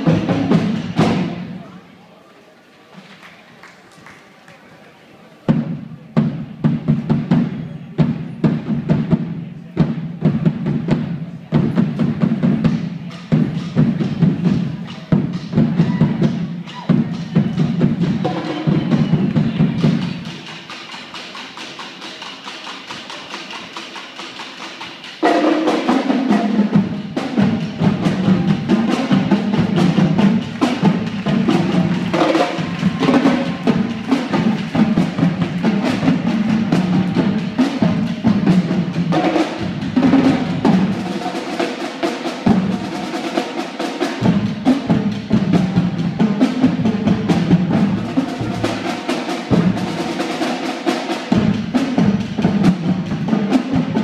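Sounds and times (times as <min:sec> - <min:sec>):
marching drumline: 0:00.0 - 0:01.8, 0:05.5 - 0:54.0.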